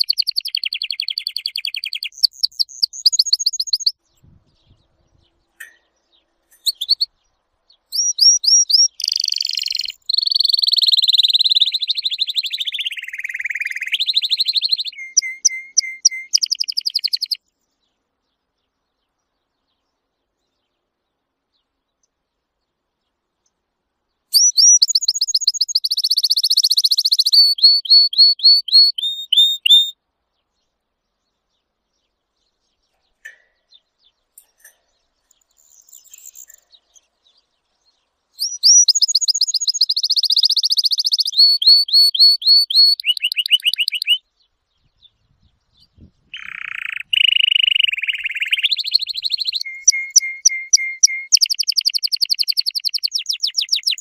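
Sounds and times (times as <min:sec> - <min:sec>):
canary singing trills: 0:00.0 - 0:17.4, 0:24.3 - 0:30.0, 0:32.0 - 0:54.0.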